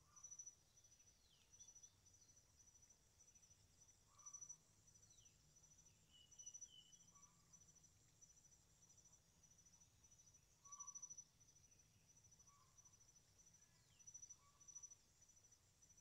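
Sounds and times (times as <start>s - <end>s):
insect chirping trill: 0.0s - 16.0s.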